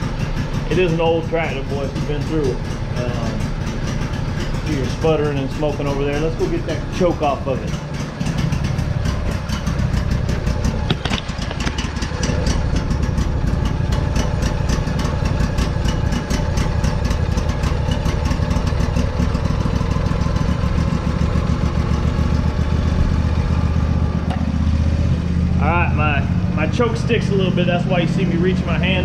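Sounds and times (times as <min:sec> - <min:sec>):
small engine sputtering and running: 0:00.0 - 0:29.0.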